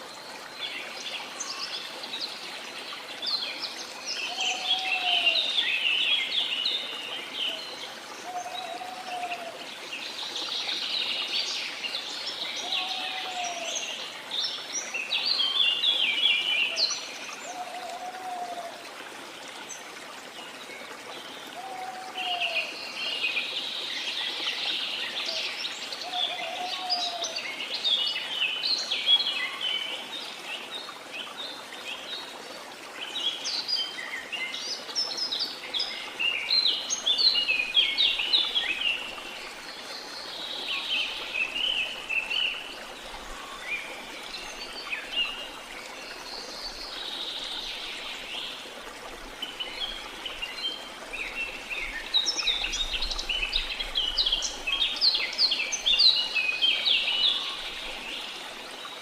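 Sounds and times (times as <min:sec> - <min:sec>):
songbirds chirping and twittering: 0:00.0 - 0:59.0
water noise: 0:00.0 - 0:59.0.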